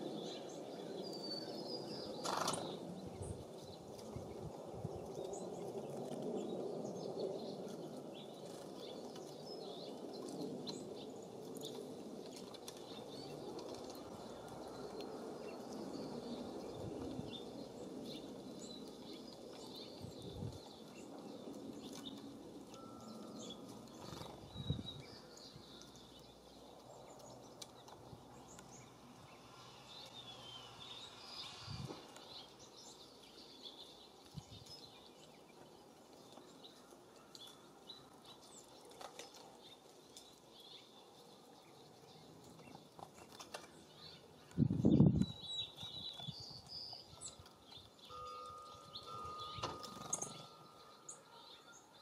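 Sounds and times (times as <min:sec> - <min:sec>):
small songbirds chirping: 0:00.0 - 0:52.0.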